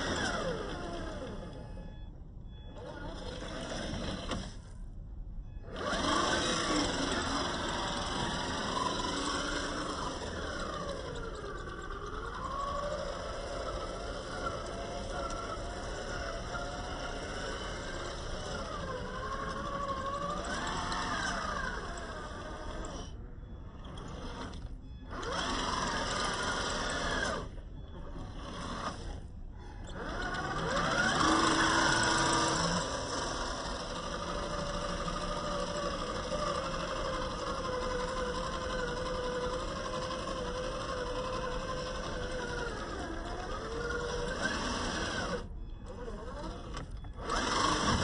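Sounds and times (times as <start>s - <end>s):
electric motor whining: 0.0s - 2.0s, 2.7s - 4.8s, 5.6s - 48.0s.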